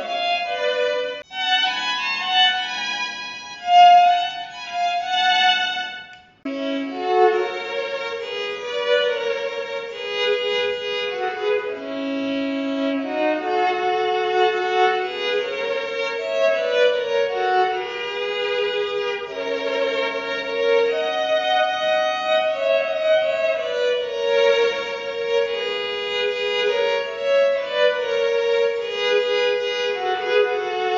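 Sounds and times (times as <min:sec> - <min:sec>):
electric violin melody: 0:00.0 - 0:30.9.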